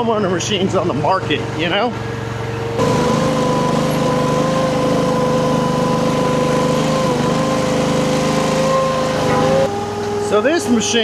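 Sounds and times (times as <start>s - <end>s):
gasoline engine running: 0.2s - 11.0s.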